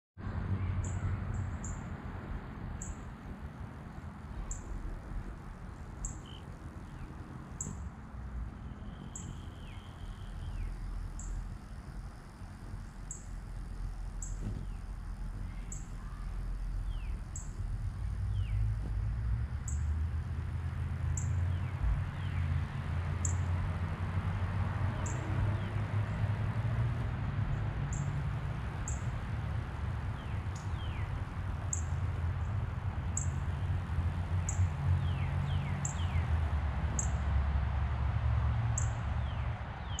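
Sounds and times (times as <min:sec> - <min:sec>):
hummingbird wings humming: 0:01.4 - 0:37.3.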